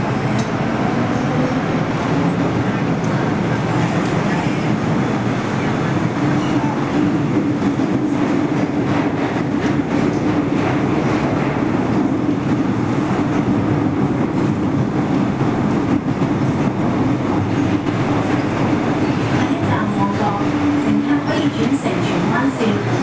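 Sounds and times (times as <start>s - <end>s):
electric train rumble and hum: 0.0s - 23.0s.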